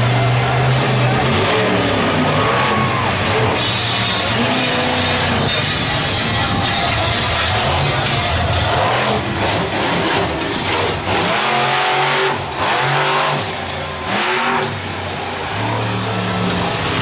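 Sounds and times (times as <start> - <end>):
truck engine revving hard: 0.0 - 17.0.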